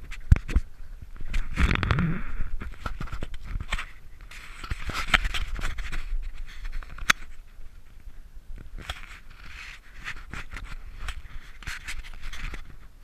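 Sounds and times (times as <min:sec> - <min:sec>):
camera scraping and rustling: 0:00.0 - 0:13.0.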